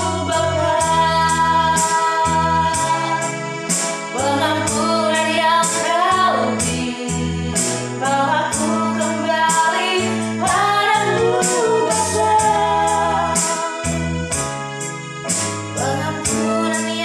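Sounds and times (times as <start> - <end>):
woman singing: 0.0 - 3.4, 4.2 - 14.0, 15.8 - 17.0
bass line: 0.0 - 17.0
keyboard chords: 0.0 - 17.0.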